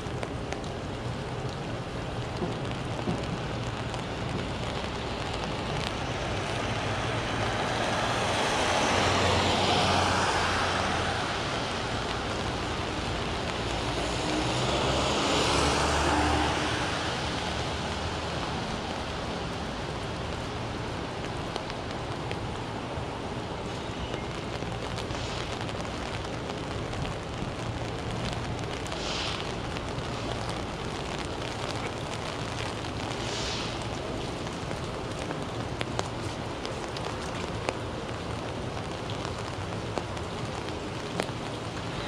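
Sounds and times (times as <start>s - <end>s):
rain: 0.0s - 42.0s
vehicles passing on wet street: 0.0s - 42.0s.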